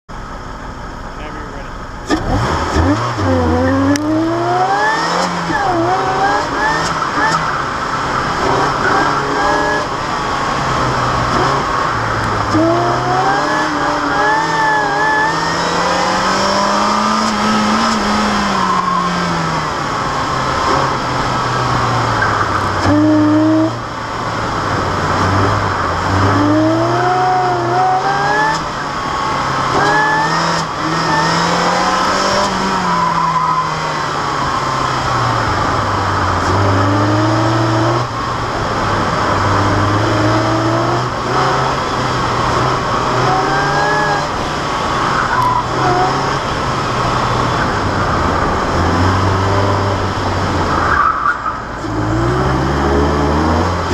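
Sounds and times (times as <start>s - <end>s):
car engine revving: 0.1s - 53.9s
supercharger whine: 0.1s - 53.9s.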